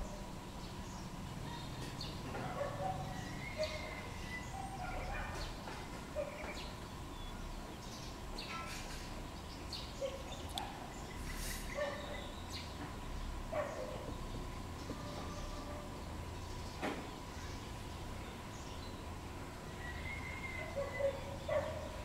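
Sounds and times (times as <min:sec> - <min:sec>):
bird calls and chirps: 0:00.0 - 0:22.0
low background hum: 0:00.0 - 0:22.0.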